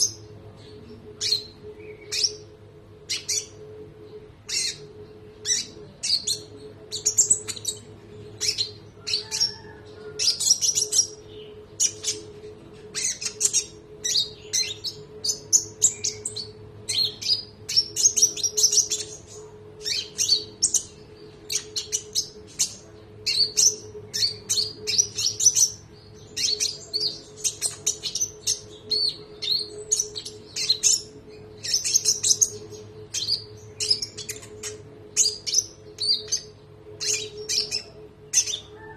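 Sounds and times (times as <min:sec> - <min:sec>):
bird singing high chirps: 0:00.0 - 0:38.9
faint steady hum: 0:00.0 - 0:38.9.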